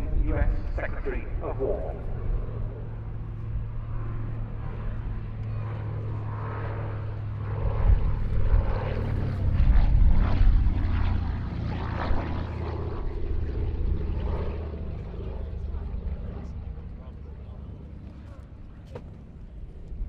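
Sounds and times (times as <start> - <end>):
propeller plane passing overhead: 0.0 - 20.0.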